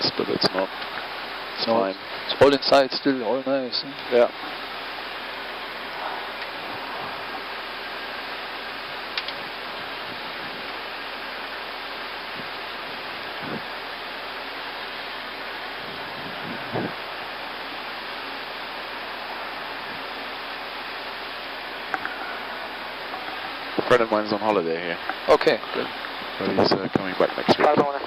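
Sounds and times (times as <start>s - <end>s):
cockpit hiss in flight: 0.0s - 28.0s.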